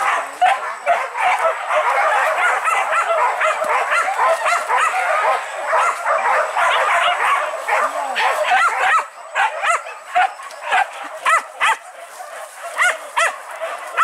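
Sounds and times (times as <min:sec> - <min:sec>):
dogs barking and yelping: 0:00.0 - 0:14.0.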